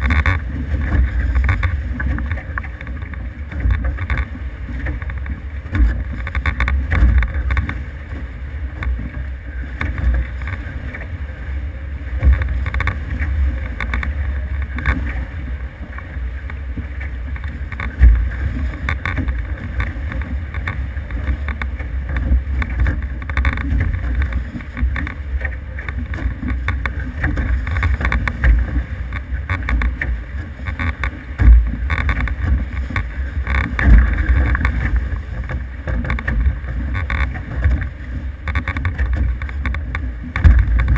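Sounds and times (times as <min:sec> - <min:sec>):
water rushing past hulls: 0:00.0 - 0:40.9.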